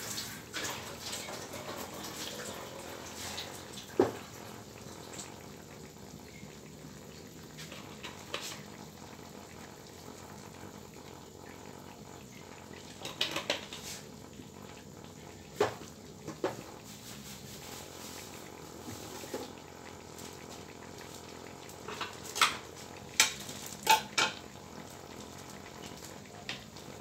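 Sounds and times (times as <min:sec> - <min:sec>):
vegetables simmering in a wok: 0:00.0 - 0:27.0.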